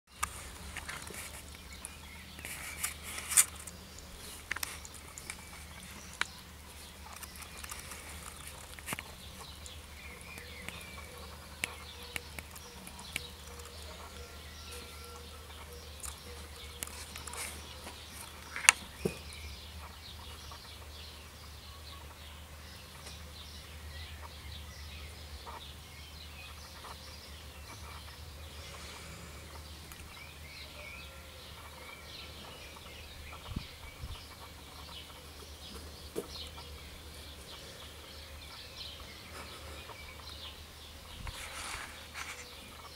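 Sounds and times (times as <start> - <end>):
small birds chirping: 0.1 - 42.9.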